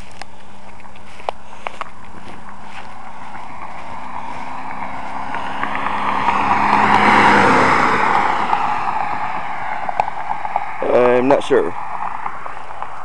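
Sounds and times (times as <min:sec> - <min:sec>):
vehicle passing by: 0:01.9 - 0:13.0.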